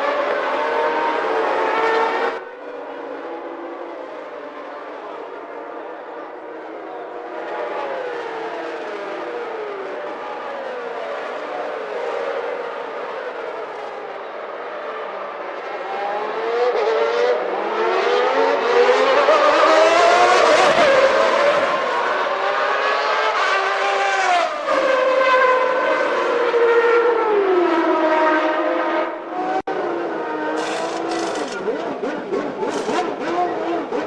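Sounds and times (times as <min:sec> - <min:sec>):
racing car engines revving: 0:00.0 - 0:34.0.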